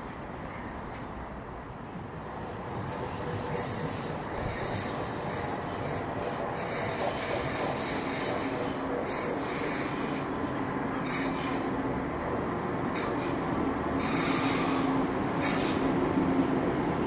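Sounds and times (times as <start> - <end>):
train wheels running on rail: 0.0 - 17.0.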